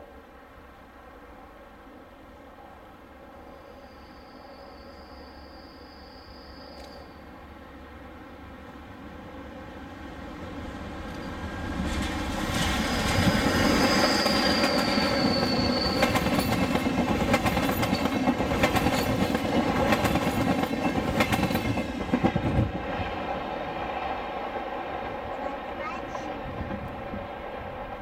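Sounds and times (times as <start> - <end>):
train passing at speed: 0.0 - 28.0.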